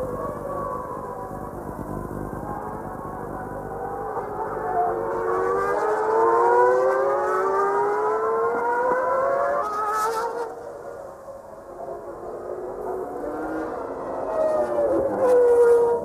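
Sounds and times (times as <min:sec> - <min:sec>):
racing car engine at high revs: 0:00.0 - 0:16.0.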